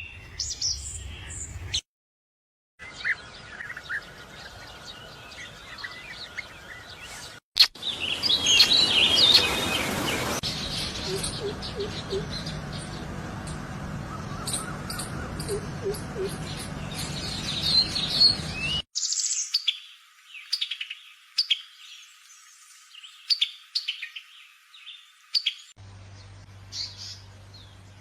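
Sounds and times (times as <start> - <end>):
birds chirping: 2.8 - 28.0.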